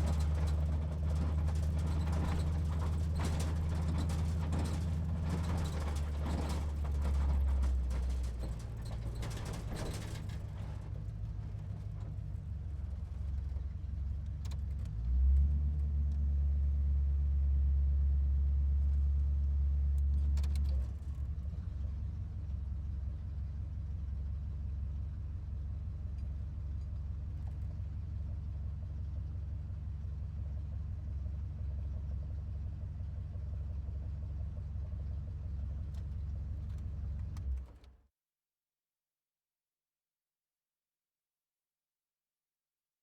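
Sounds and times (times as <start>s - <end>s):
car engine rumbling and idling: 0.0s - 37.8s.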